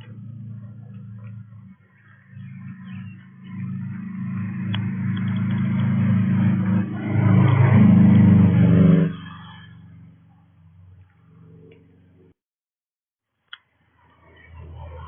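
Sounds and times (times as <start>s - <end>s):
vehicle engine approaching: 0.0s - 12.4s, 13.8s - 15.0s.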